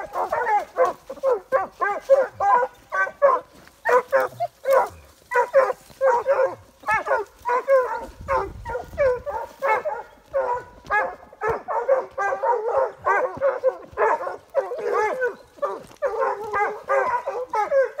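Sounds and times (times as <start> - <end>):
hounds baying: 0.0 - 18.0.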